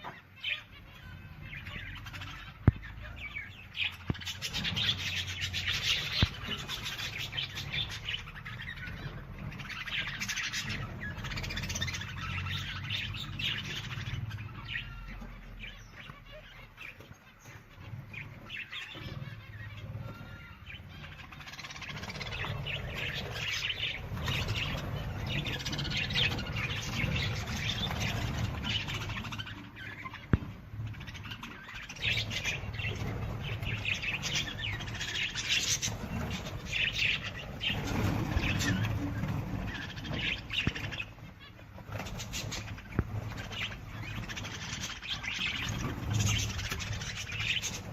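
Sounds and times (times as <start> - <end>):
wild birds chirping: 0.0 - 47.9.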